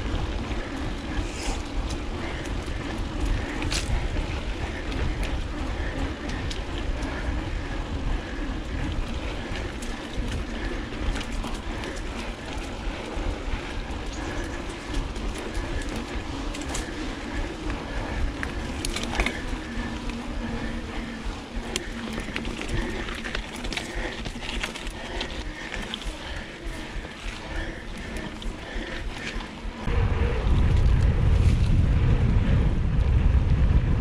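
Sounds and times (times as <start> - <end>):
bike tyres rumbling and rattling: 0.0 - 34.0
wind on microphone: 0.0 - 34.0.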